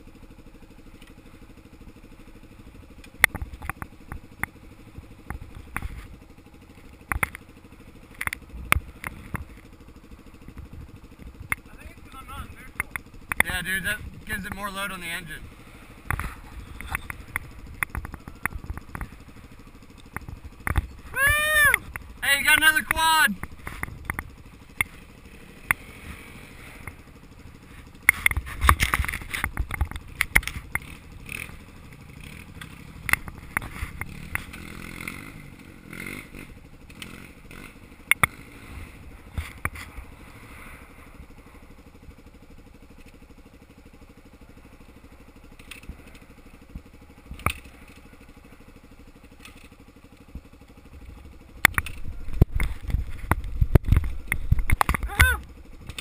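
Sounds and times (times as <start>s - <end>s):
bikes knocking and rattling: 0.0s - 56.0s
dirt bike engines: 0.0s - 56.0s.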